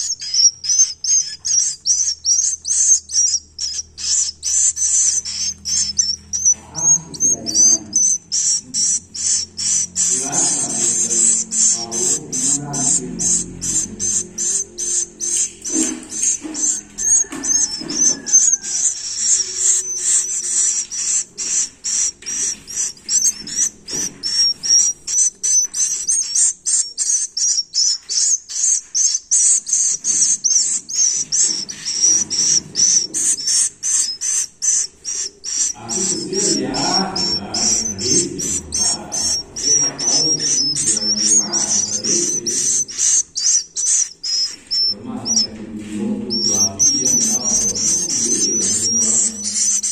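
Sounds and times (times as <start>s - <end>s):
bird chicks chirping shrilly: 0.0s - 49.9s.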